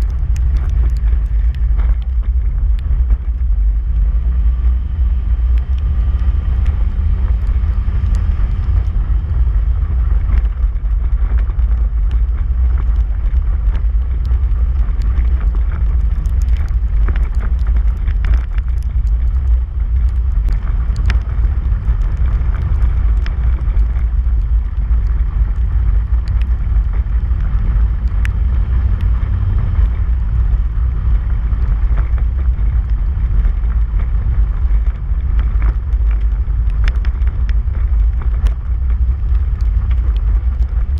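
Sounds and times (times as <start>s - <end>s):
off-road vehicle engine rumble: 0.0s - 40.9s.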